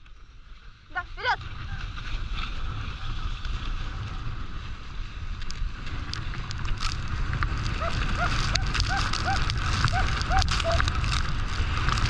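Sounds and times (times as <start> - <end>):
wind buffeting microphone: 1.3 - 12.0.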